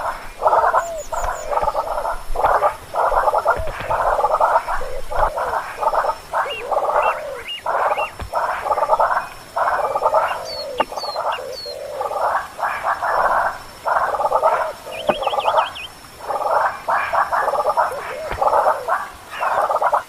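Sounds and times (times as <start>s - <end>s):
harsh raspy animal calls: 0.0s - 20.0s.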